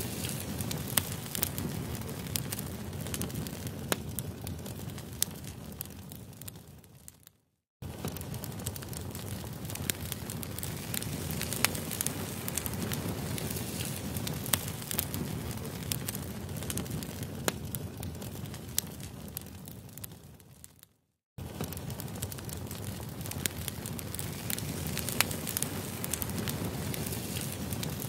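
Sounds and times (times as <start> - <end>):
steady crackling with sharp pops: 0.0 - 28.0.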